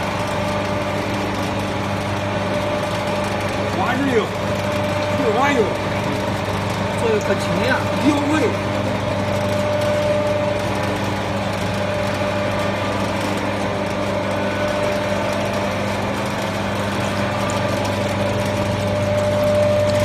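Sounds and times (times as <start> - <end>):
motor hum: 0.0 - 20.0.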